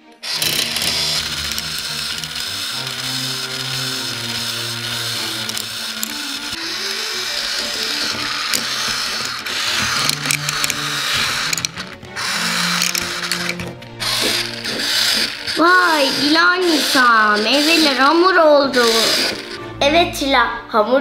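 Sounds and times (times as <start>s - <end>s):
toy hand mixer whirring: 0.0s - 19.6s
background music: 0.0s - 21.0s.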